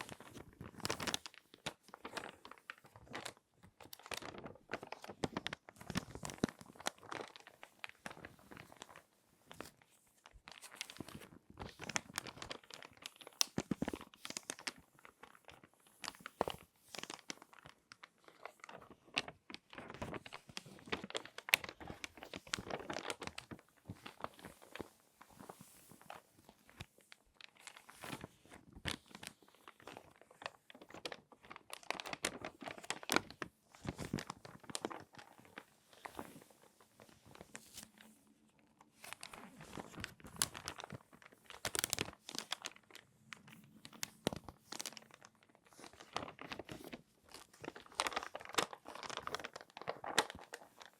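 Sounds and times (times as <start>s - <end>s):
magazine pages crinkling: 0.0s - 50.9s.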